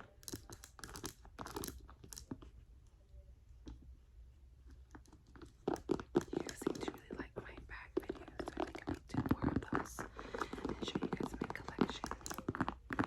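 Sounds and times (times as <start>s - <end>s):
leather bag crinkling and tapping: 0.0s - 2.5s, 4.7s - 13.0s.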